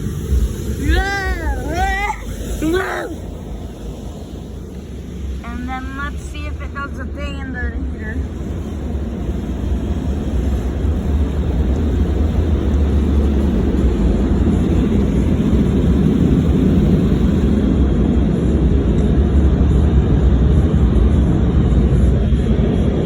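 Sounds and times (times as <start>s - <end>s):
blowers rushing air: 0.0s - 23.0s.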